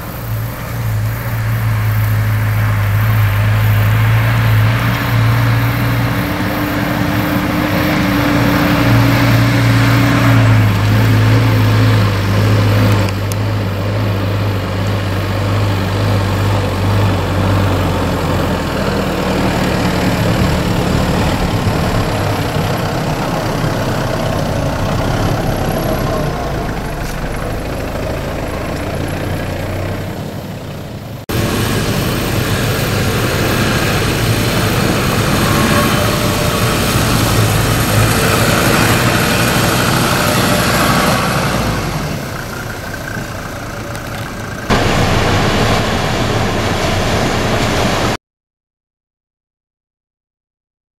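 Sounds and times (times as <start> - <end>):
engine running at low revs: 0.0 - 48.2.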